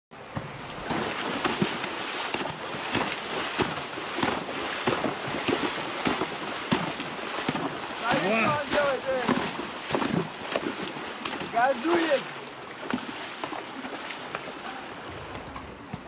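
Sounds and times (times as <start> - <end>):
hooves splashing in water: 0.2 - 16.0
rushing stream water: 0.2 - 16.0.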